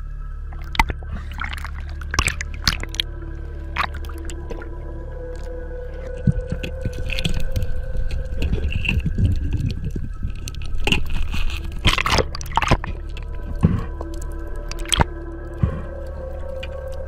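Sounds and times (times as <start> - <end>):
low underwater rumble: 0.0 - 17.0
underwater crackling clicks: 0.5 - 3.1, 3.7 - 17.0.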